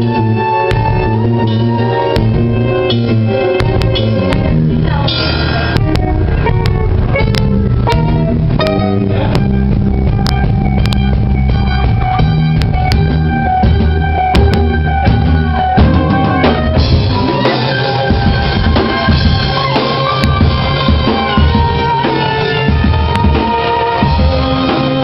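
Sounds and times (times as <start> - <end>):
drum kit beat: 0.0 - 25.0
rock band playing loudly: 0.0 - 25.0
sustained guitar notes: 0.0 - 25.0.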